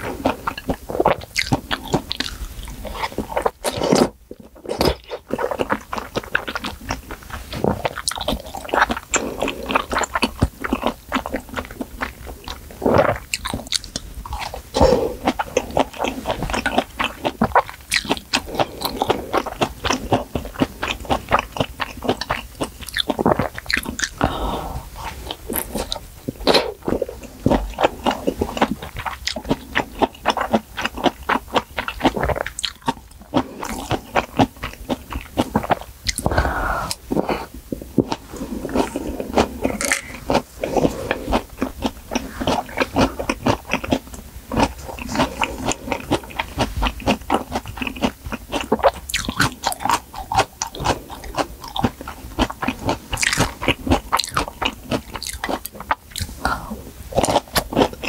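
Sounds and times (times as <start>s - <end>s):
wet chewing and mouth clicks: 0.0s - 58.0s.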